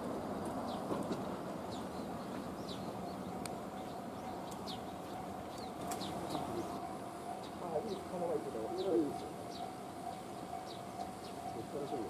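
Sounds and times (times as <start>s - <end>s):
small birds chirping: 0.3s - 12.0s.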